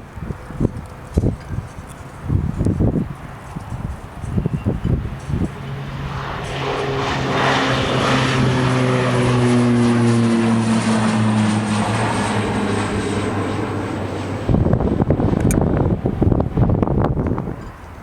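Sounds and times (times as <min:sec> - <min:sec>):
jet aircraft engines passing: 0:00.0 - 0:18.0.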